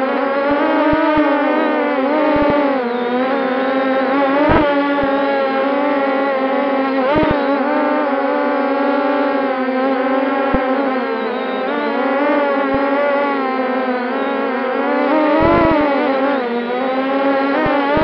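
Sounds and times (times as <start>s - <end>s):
drone motors humming: 0.0s - 18.0s.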